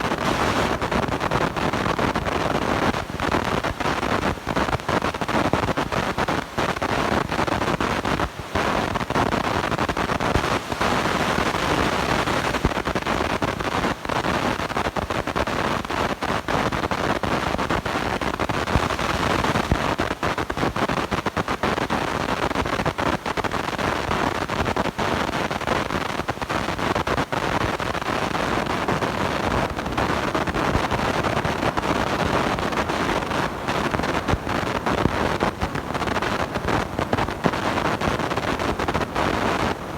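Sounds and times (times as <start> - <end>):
crackling microphone distortion: 0.0 - 39.9.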